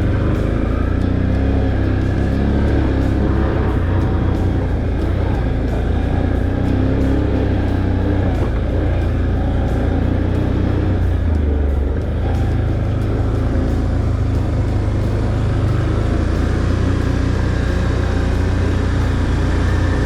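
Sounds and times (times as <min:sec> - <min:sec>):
atv engine droning: 0:00.0 - 0:20.0.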